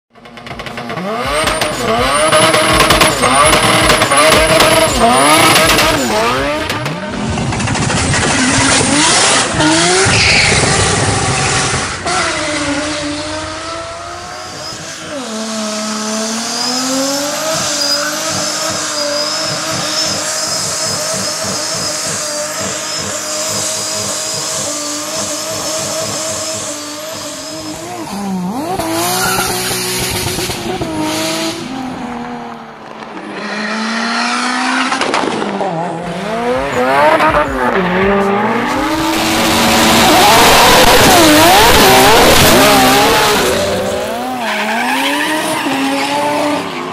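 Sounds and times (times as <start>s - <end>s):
car engines revving hard: 0.1s - 46.9s.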